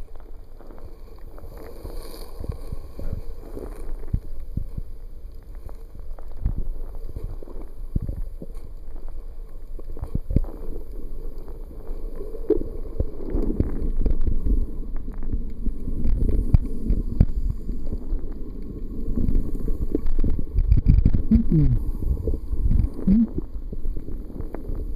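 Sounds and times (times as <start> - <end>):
muffled underwater rumbling: 0.0 - 24.9.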